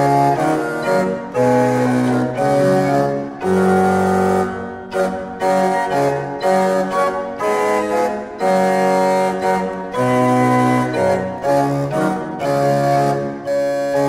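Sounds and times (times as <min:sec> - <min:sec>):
organ playing chords: 0:00.0 - 0:14.0.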